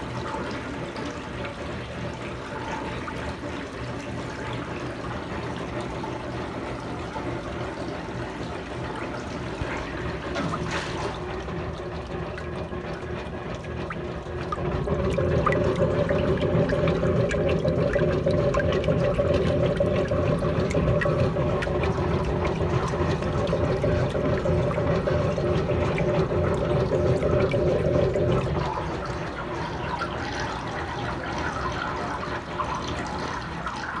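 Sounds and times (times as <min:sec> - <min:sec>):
washing machine filling with water: 0:00.0 - 0:34.0.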